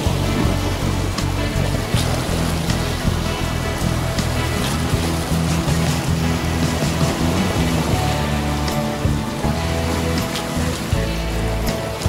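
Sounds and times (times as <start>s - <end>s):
background music with bass notes: 0.0s - 12.0s
waves against shore rocks: 0.0s - 12.0s.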